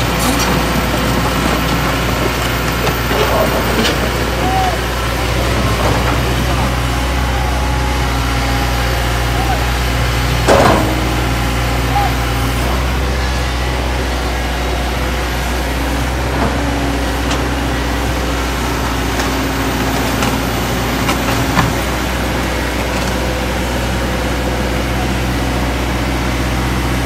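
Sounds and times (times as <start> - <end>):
truck engine running at low revs: 0.0 - 27.0.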